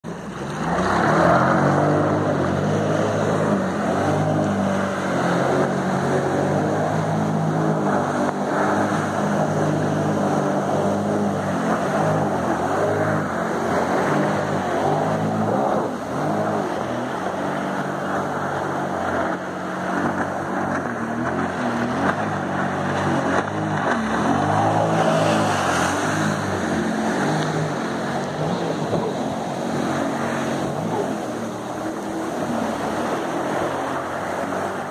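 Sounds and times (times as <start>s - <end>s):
jet ski engine running: 0.0s - 34.9s
rush of spray and wind: 0.0s - 34.9s.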